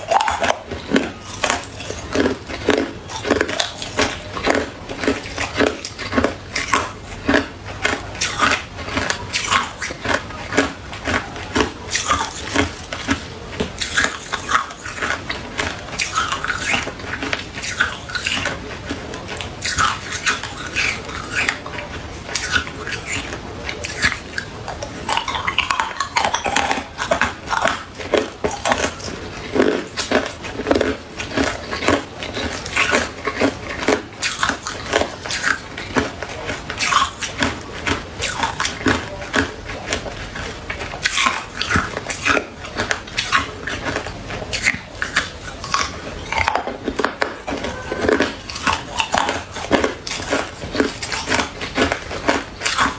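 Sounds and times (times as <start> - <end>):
ice crunching between teeth: 0.0 - 52.9.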